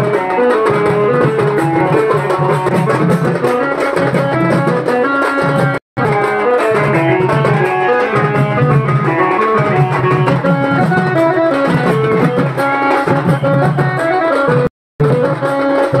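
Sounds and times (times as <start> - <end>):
drums beating: 0.0 - 16.0
procession band playing: 0.3 - 16.0.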